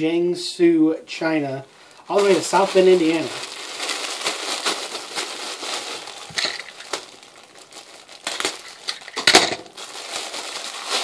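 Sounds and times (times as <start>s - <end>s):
plastic bag crinkling: 1.9s - 11.0s.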